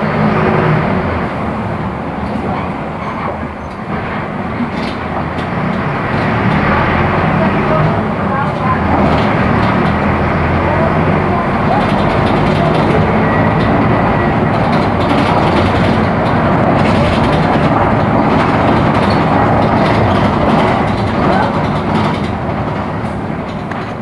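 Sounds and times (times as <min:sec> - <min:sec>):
bus body rattling: 0:00.0 - 0:24.0
bus diesel engine running: 0:00.0 - 0:24.0.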